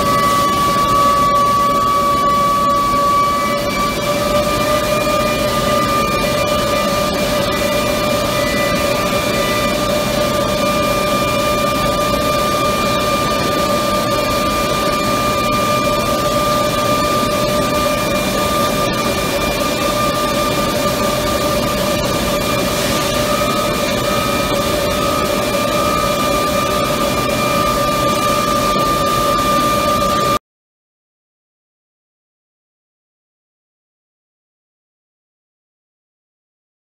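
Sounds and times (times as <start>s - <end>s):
high machine whine: 0.0s - 30.4s
industrial machinery hiss and rumble: 0.0s - 30.4s.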